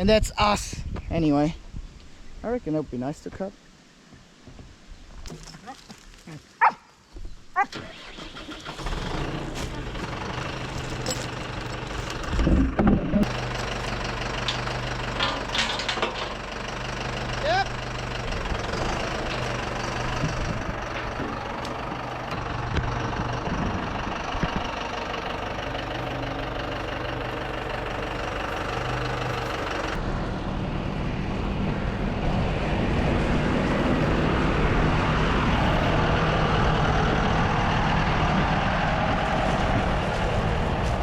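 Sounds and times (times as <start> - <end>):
vehicle engine running: 7.9 - 41.0.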